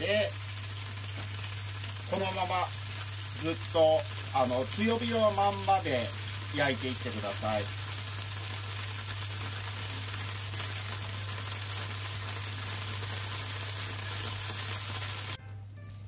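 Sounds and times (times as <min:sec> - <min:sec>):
dumplings sizzling in a pan: 0:00.0 - 0:16.0.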